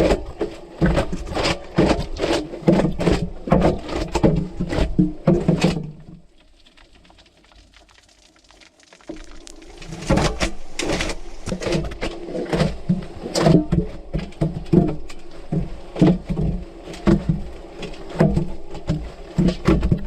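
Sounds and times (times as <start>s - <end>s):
water sloshing in washing machine: 0.0s - 6.8s, 9.2s - 20.0s.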